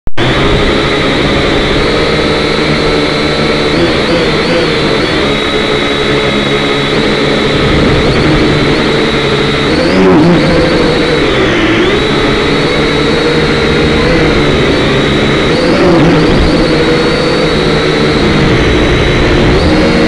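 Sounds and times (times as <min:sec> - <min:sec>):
drone motors whining: 0:00.1 - 0:20.0.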